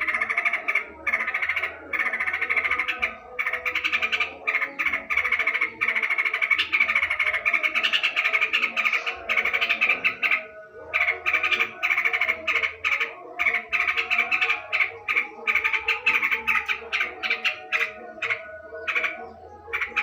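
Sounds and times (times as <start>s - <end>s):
bulbul chattering: 0.0s - 20.0s.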